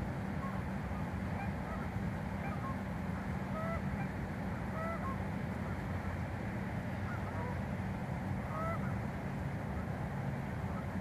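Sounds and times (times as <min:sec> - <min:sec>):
distant geese honking: 0:00.3 - 0:11.0.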